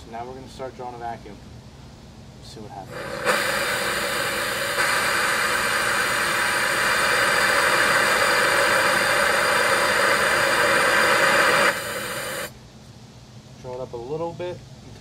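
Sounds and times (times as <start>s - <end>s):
vacuum pump running with hiss: 0.0s - 15.0s.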